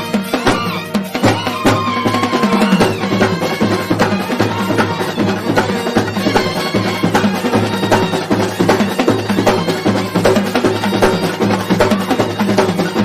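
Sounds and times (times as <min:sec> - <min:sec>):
fast dense drum beats: 0:00.0 - 0:13.0
wind instruments melody: 0:00.0 - 0:13.0.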